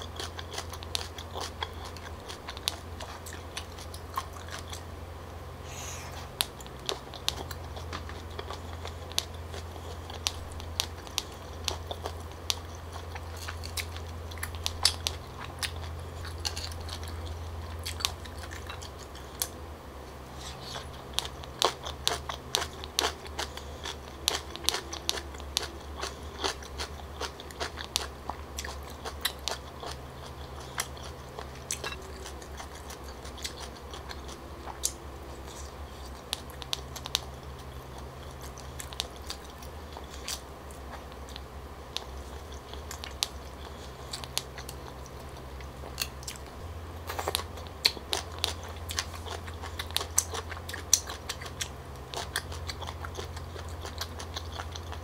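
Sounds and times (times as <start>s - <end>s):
person chewing and biting: 0.0s - 4.9s, 5.7s - 19.6s, 20.2s - 55.0s
low steady hum: 0.0s - 55.0s.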